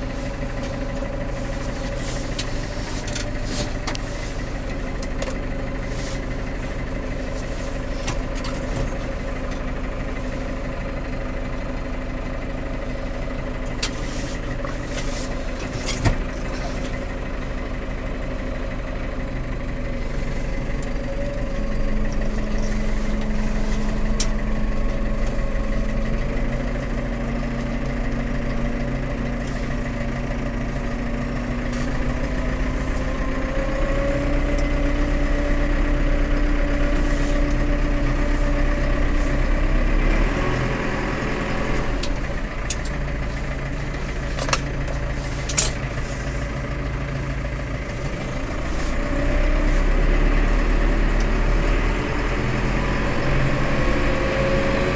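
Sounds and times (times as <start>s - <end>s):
tractor diesel engine revving: 0.0s - 54.9s.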